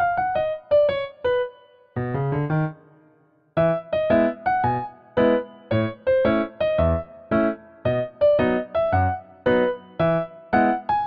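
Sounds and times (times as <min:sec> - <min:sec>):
piano-like keyboard music: 0:00.0 - 0:11.0.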